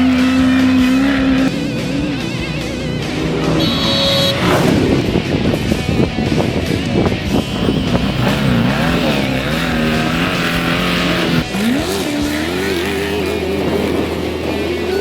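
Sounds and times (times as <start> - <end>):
race vehicle engine revving: 0.0 - 15.0.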